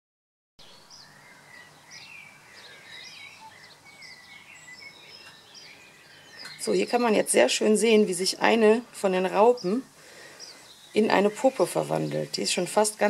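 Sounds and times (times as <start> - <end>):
faint bird chirping: 0.6 - 13.0
steady low background noise: 0.6 - 13.0.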